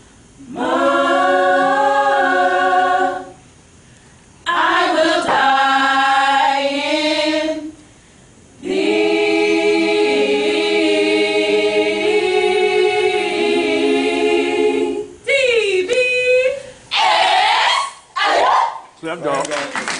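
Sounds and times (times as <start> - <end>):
group singing a cappella: 0.0 - 3.6, 4.4 - 7.9, 8.5 - 18.8.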